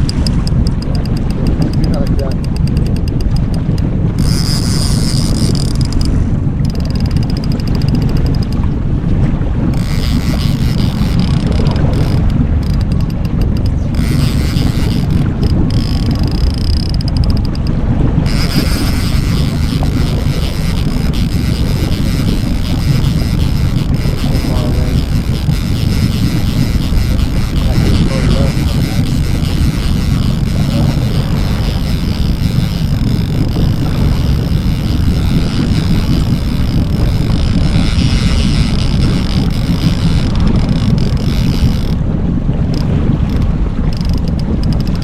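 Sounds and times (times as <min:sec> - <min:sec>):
boat motor running: 0:00.0 - 0:45.0
wind buffeting microphone: 0:00.0 - 0:45.0.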